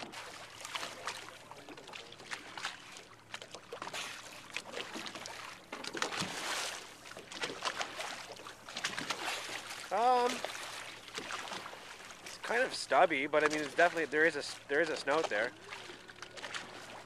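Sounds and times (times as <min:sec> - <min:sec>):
dolphin splashing: 0:00.0 - 0:17.0
water splashing at boat bow: 0:00.0 - 0:17.0.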